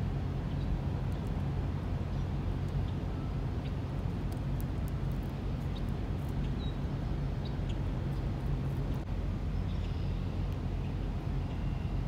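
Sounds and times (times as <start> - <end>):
low outdoor rumble: 0.0 - 12.0
small birds chirping: 2.0 - 12.0.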